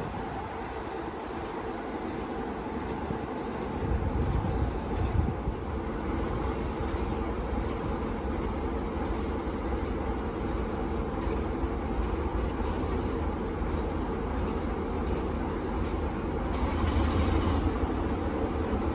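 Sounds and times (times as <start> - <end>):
train running past: 0.0 - 18.9.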